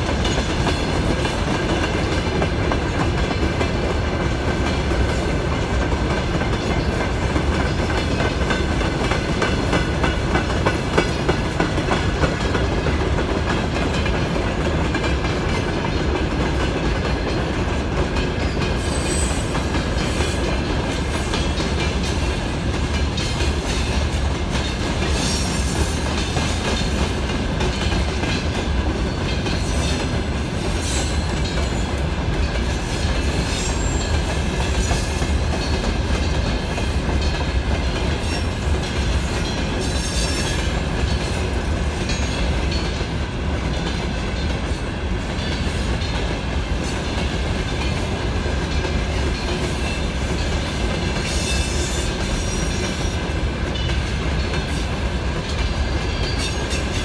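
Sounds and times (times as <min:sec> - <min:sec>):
clickety-clack over rail joints: 0:00.0 - 0:57.0
freight train wheels rumbling: 0:00.0 - 0:57.0.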